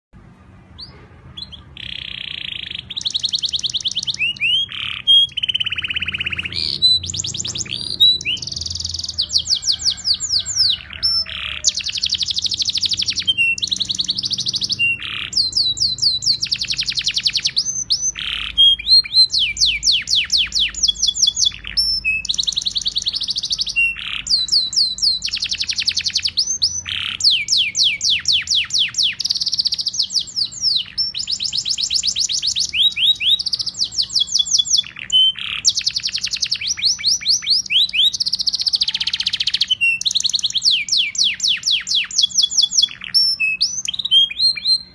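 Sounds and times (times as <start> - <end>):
canary singing trills: 0.7 - 44.9.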